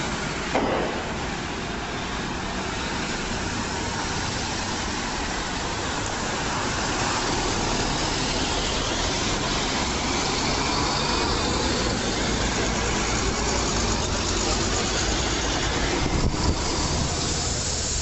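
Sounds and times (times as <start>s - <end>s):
bus passing close: 0.0s - 18.0s
vehicles driving past: 0.0s - 18.0s.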